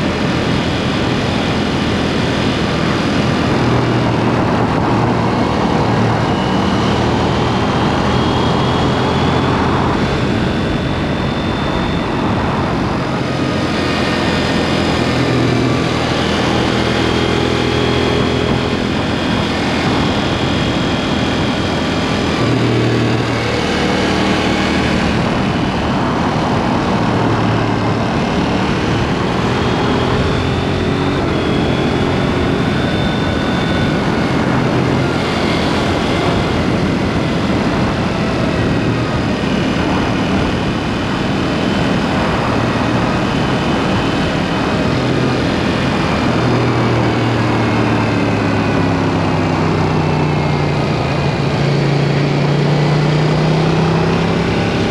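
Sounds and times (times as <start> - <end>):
motorcycle engine revving: 0.0 - 54.9
road noise: 0.0 - 54.9
wind noise: 0.0 - 54.9.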